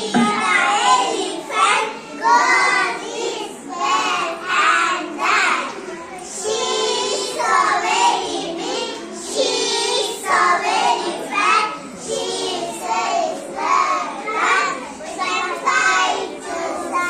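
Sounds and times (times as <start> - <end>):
child singing: 0.0 - 17.0.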